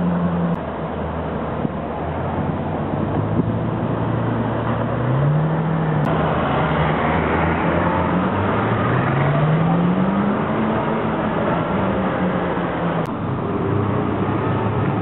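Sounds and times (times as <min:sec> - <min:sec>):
car engine pulling away: 0:00.0 - 0:15.0
sports car accelerating away: 0:02.2 - 0:15.0.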